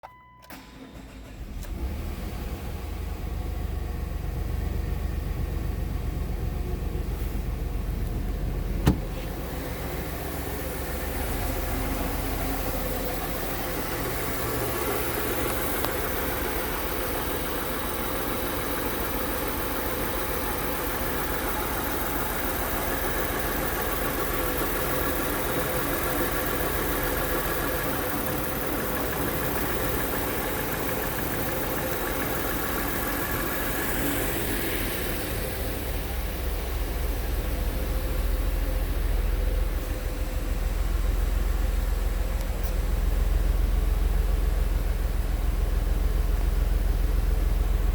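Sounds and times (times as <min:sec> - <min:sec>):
car engine idling: 0:00.5 - 0:47.9.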